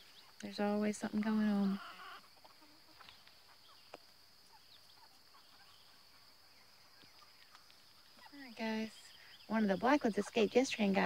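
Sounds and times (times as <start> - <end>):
faint chirps: 0.0 - 11.0.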